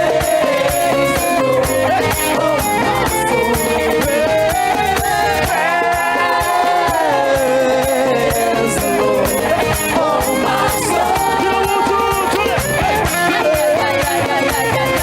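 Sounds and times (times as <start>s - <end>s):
steady drum beat: 0.0s - 15.0s
worship band playing: 0.0s - 15.0s.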